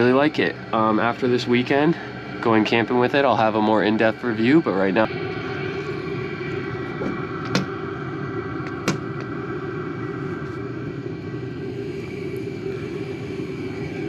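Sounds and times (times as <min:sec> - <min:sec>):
air heater blower hum: 0:00.0 - 0:14.0.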